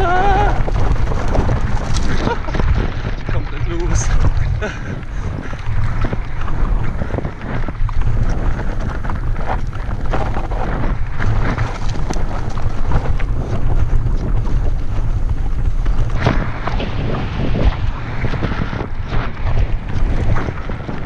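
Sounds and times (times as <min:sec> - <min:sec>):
bike tyres knocking over stones: 0:00.0 - 0:17.9
wind rumbling on microphone: 0:00.0 - 0:21.0.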